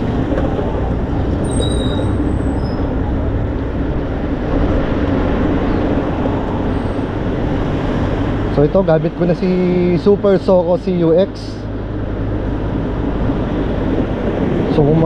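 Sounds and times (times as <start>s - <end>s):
wind and tyres rumbling: 0.0s - 15.0s.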